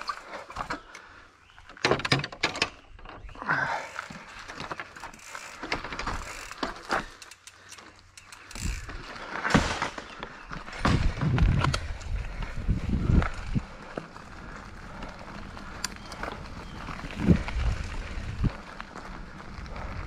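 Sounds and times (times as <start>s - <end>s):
mountain bike rattling: 0.0s - 20.0s.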